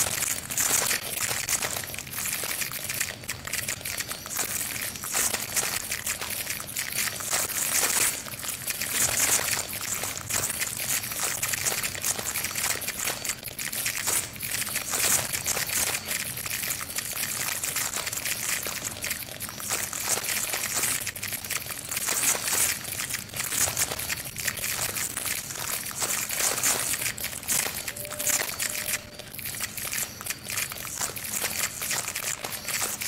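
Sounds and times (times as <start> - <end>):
dense crackling and trickling: 0.0 - 33.0.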